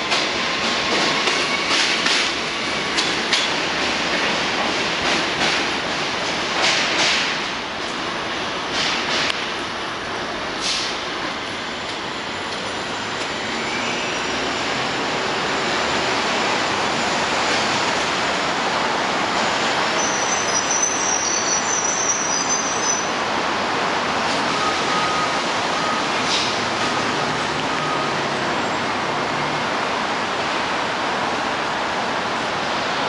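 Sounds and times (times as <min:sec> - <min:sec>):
subway train pulling out: 0:00.0 - 0:33.0
wheels rumbling on rail: 0:00.0 - 0:33.0.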